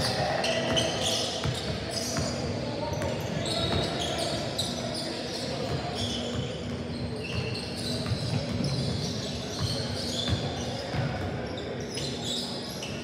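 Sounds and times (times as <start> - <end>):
players' voices: 0.0 - 13.0
sneakers squeaking: 0.0 - 13.0.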